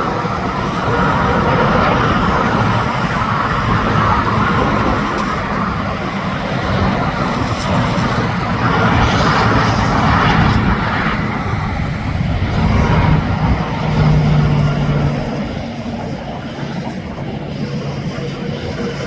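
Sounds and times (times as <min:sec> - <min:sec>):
low truck engine drone: 0:00.0 - 0:19.0
tyre and wind roar: 0:00.0 - 0:19.0.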